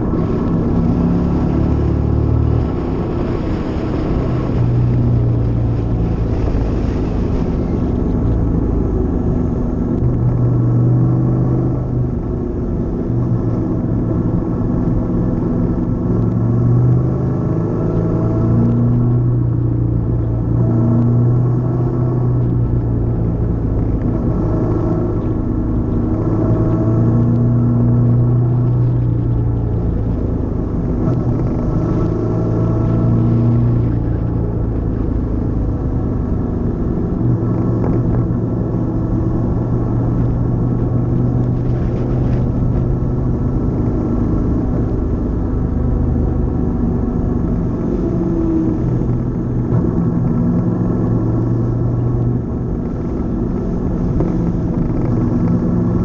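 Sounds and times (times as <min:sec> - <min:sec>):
low wind: 0:00.0 - 0:56.0
road rumble: 0:00.0 - 0:56.0.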